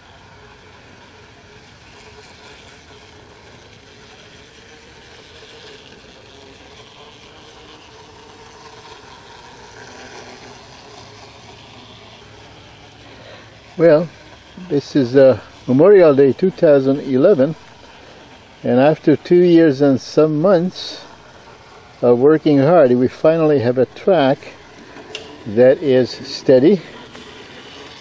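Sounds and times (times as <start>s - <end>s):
model train motor drone: 0.0s - 28.0s
wheels on rails: 0.0s - 28.0s.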